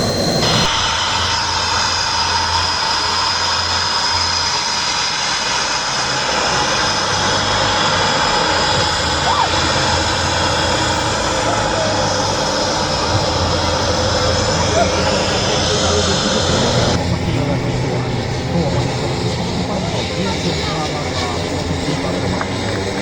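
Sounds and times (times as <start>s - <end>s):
jet engine running: 0.0s - 23.0s.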